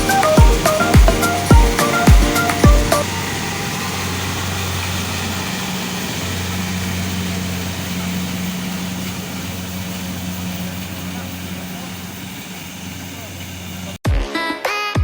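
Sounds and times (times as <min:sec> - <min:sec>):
harvester engine droning: 0:00.0 - 0:14.0
machine clatter: 0:00.0 - 0:14.0.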